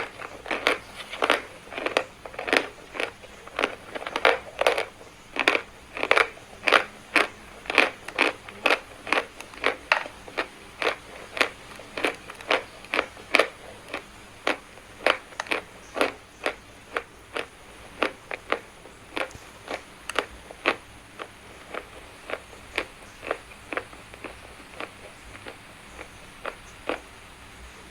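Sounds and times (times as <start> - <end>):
chalk being chewed: 0.0 - 27.5.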